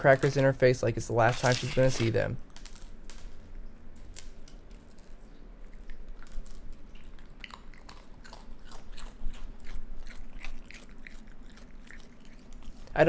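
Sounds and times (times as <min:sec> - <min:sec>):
raccoon crunching crackers: 0:02.4 - 0:13.0.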